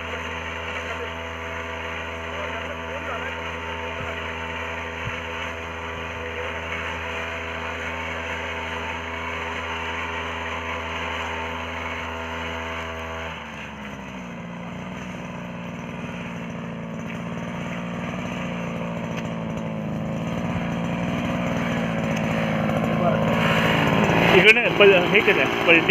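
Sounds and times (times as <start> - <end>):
small petrol engine running: 0.0 - 25.9.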